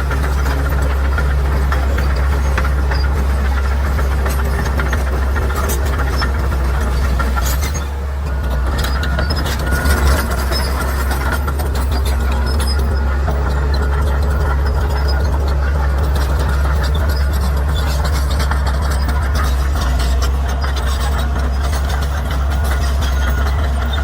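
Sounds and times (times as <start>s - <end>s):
bulldozer diesel engine drone: 0.0s - 24.0s.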